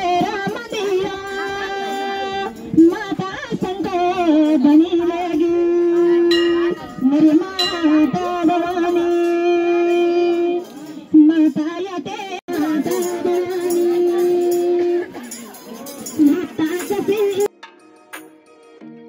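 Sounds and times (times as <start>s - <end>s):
women singing folk song: 0.0s - 15.3s.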